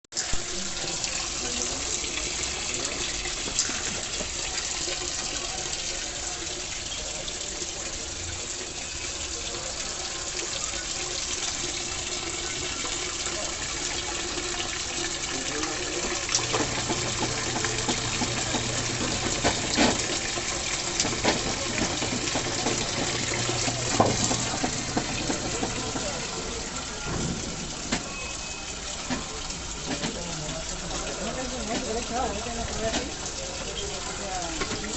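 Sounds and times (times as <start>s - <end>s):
water filling washing machine: 0.1s - 34.9s.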